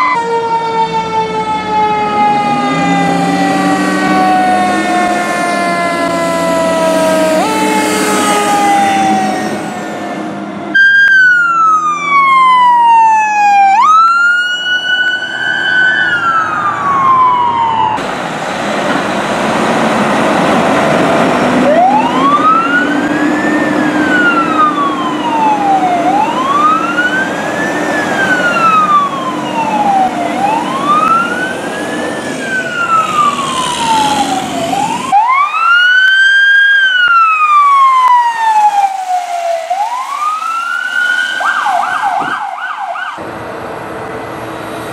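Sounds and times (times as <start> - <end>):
fire truck siren wailing: 0.0 - 44.9
road noise: 0.0 - 44.9
truck engine: 0.0 - 44.9.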